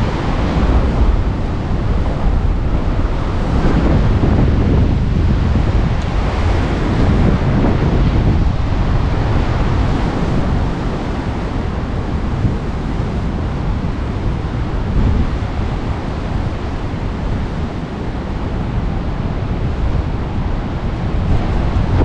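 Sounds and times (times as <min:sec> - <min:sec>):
rough surf washing: 0:00.0 - 0:22.0
strong wind on microphone: 0:00.0 - 0:22.0.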